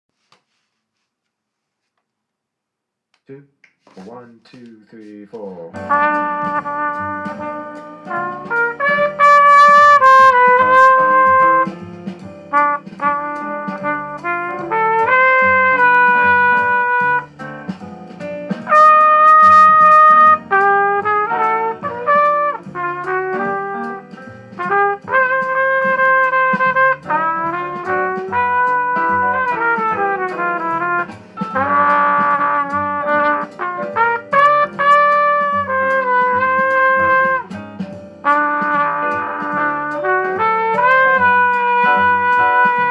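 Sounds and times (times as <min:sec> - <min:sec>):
guitar accompaniment: 0:03.9 - 0:42.9
bass accompaniment: 0:04.0 - 0:42.9
trumpet playing jazz ballad: 0:05.7 - 0:42.9.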